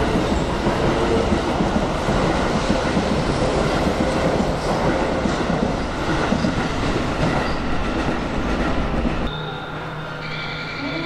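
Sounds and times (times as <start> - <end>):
electric train wheels rumbling on rail: 0.0 - 11.0.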